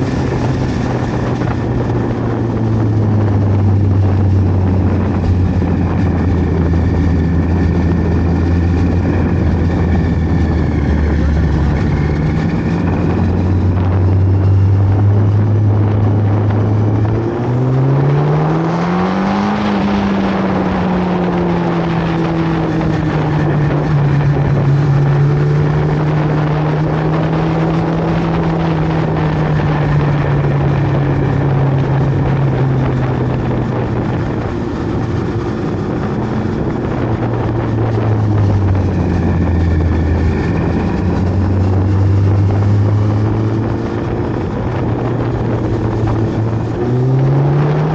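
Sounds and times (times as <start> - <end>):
motorcycle engine accelerating: 0.0 - 47.9
wind rush: 0.0 - 47.9.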